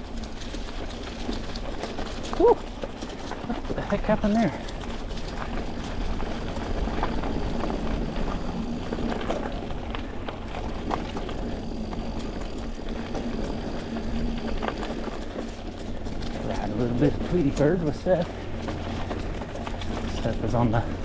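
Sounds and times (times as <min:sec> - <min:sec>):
bike clicks and rattles: 0:00.0 - 0:21.0
bike tyre rumble on dirt: 0:00.0 - 0:21.0.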